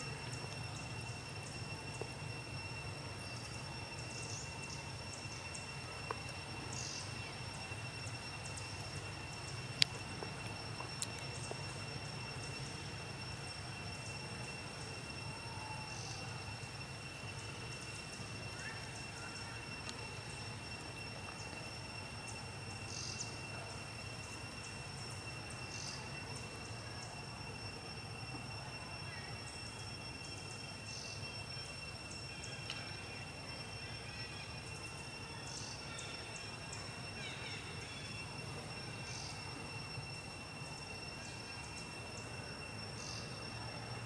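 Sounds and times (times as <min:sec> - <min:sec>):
high-pitched whine: 0:00.0 - 0:44.0.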